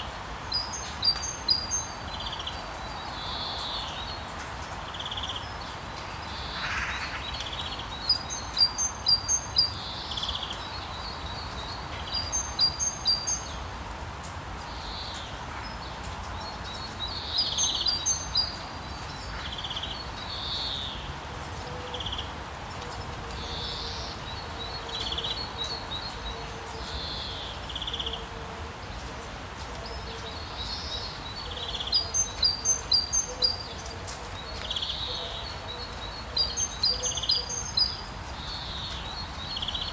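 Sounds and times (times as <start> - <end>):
rain hiss: 0.0 - 39.9.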